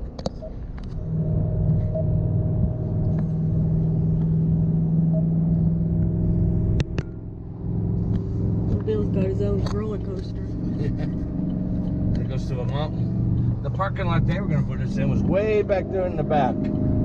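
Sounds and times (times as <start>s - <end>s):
vehicle engine hum with road noise: 0.0s - 17.0s.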